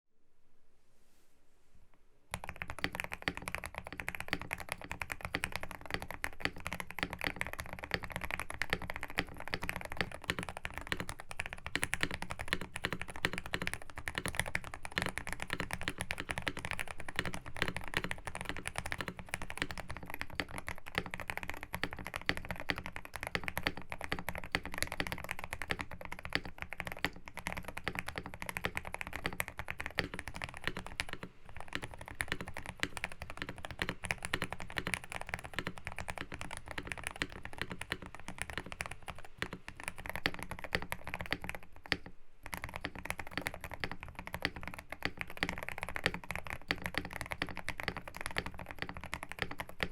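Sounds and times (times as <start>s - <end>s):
fast typing on mechanical keyboard: 2.3s - 49.9s.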